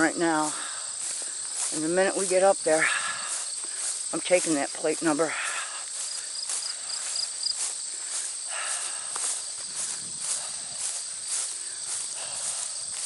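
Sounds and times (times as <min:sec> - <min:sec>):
high-pitched insect chorus: 0:00.0 - 0:13.0
footsteps swishing through hay: 0:00.2 - 0:13.0.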